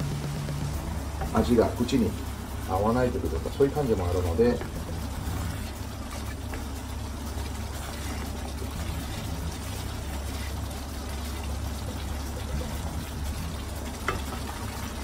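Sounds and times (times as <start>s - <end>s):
steady low hum: 0.0s - 15.0s
sauce bubbling in a frying pan: 0.1s - 15.0s
wooden spatula stirring: 0.1s - 15.0s.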